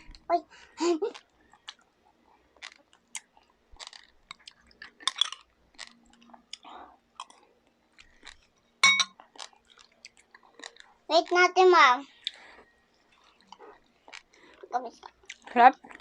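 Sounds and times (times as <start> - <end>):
wet chewing and lip-smacking: 1.1 - 11.0, 12.1 - 16.0.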